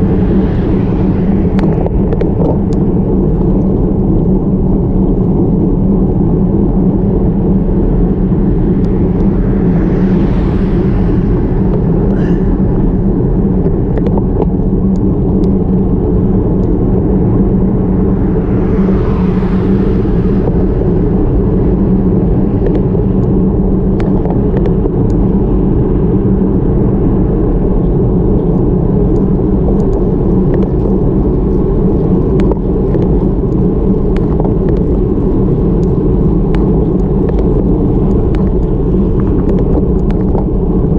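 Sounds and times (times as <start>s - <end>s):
wind and road noise rumble: 0.0s - 40.9s.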